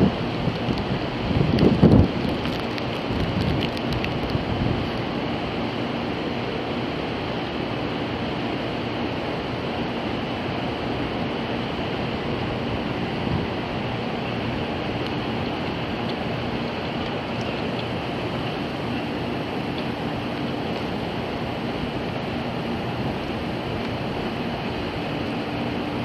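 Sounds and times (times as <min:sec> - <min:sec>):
faint low hum of train equipment: 0:00.0 - 0:26.0
steady rushing noise: 0:00.0 - 0:26.0.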